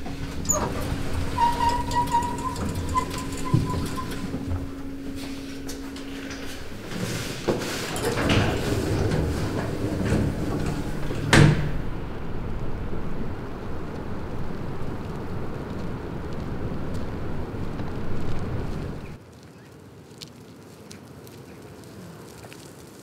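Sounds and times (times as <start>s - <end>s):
steady rumbling noise: 0.0s - 19.2s.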